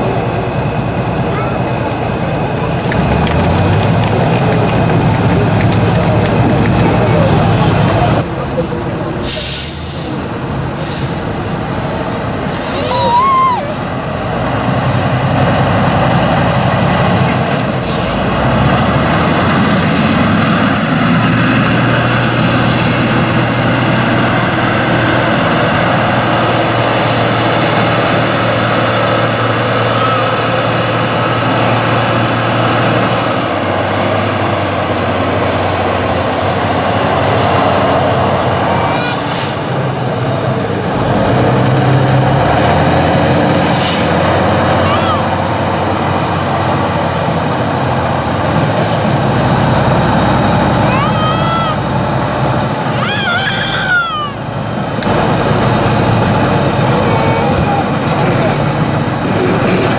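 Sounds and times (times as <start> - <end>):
truck diesel engine under load: 0.0 - 59.9.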